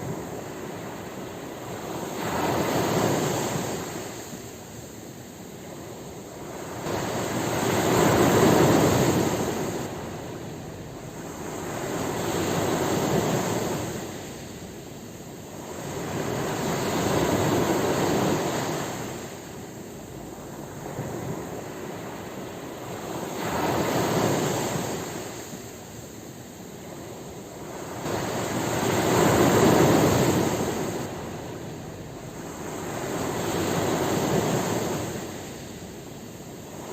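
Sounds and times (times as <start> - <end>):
ocean waves breaking on shore: 0.0 - 36.9.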